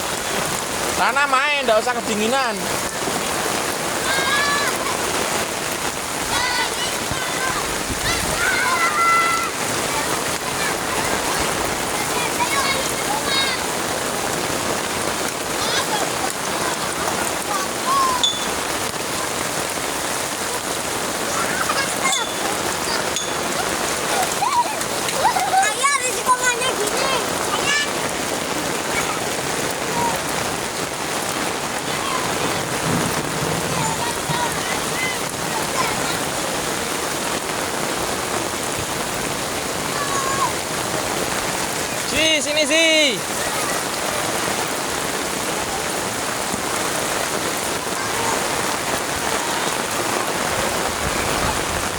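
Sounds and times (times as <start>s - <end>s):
rain pattering on surfaces: 0.0s - 51.9s.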